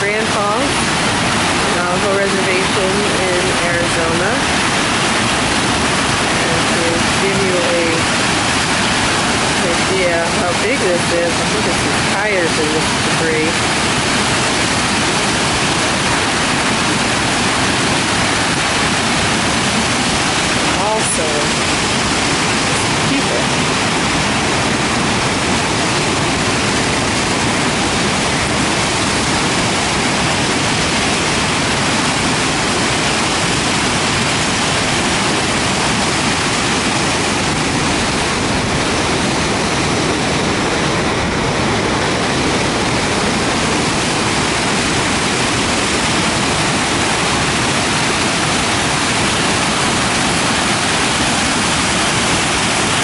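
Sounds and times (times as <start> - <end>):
water cascading over rock ledges: 0.0 - 53.0.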